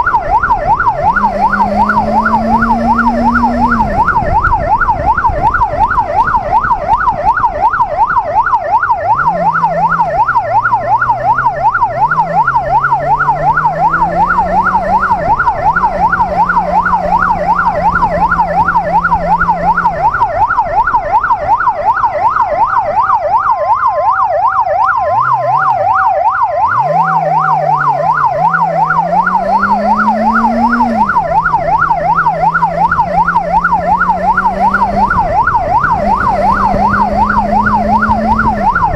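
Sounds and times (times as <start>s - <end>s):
electronic siren yelp: 0.0s - 38.9s
motorcycle engine revving: 0.2s - 5.4s, 8.9s - 21.3s, 25.0s - 38.9s.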